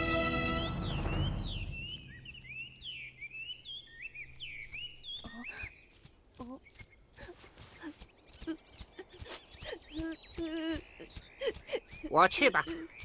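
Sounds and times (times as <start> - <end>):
small birds chirping: 0.5 - 13.0
low bird calls: 0.6 - 13.0.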